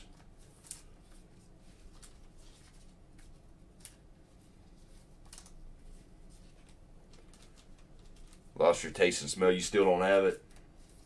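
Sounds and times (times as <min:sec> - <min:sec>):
trading cards rustling: 0:00.1 - 0:11.0.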